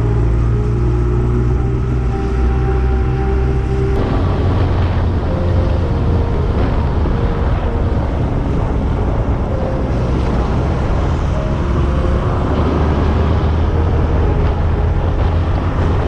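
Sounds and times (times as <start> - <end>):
motorcycle engine cruising: 0.0 - 16.0
wind noise: 0.0 - 16.0.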